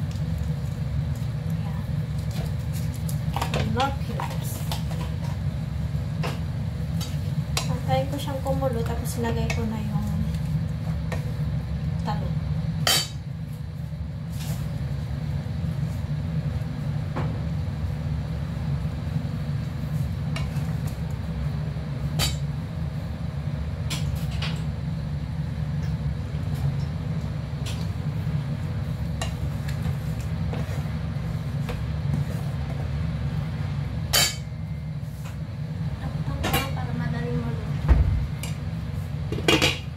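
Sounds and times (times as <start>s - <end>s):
stew boiling in a pan: 0.0s - 39.9s.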